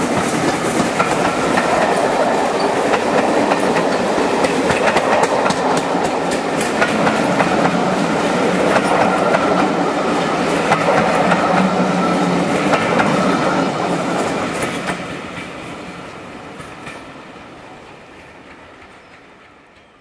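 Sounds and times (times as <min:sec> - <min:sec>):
train wheels clicking over rail joints: 0:00.0 - 0:15.8, 0:16.5 - 0:17.1.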